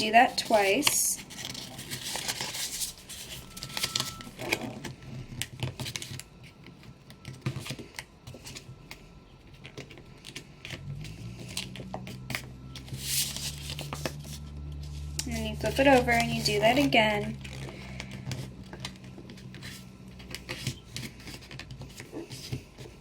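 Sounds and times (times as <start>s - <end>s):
low steady hum: 0.0s - 23.0s
paper being folded and creased: 0.0s - 23.0s.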